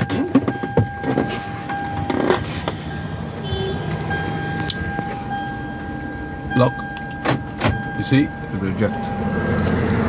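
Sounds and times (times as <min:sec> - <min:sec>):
car reminder chime tone: 0:00.0 - 0:09.4.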